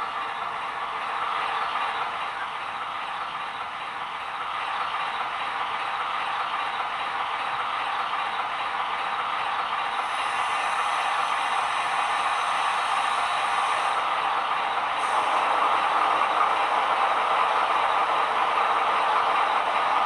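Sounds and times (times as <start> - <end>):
model diesel engine sound from speaker: 0.0 - 20.0.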